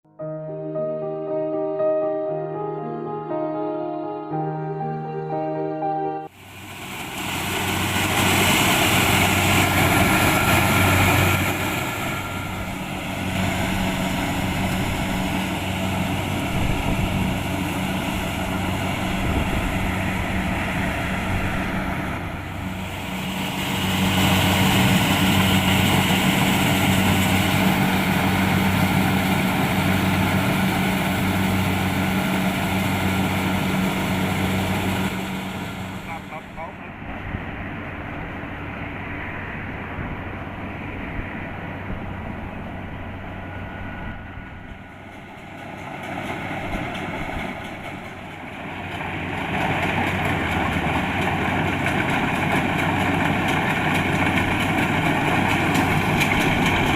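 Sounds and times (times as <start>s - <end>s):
combine harvester droning: 2.3s - 56.9s.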